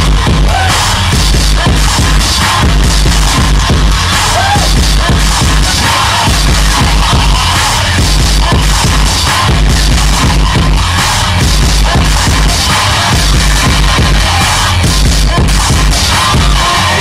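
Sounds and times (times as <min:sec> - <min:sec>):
distorted industrial noise music: 0:00.0 - 0:17.0
heavy pulsing bass beat: 0:00.0 - 0:17.0.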